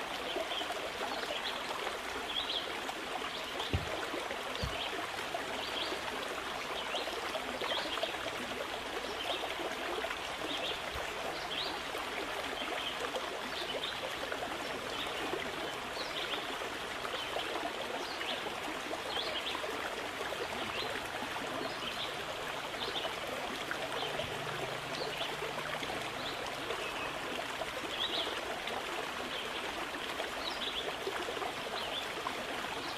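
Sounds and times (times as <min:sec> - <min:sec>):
stream water flowing: 0:00.0 - 0:32.9.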